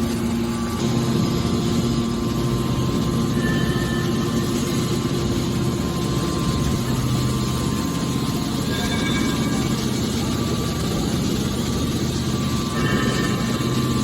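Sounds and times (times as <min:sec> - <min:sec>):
hydraulic baler droning: 0:00.0 - 0:14.0.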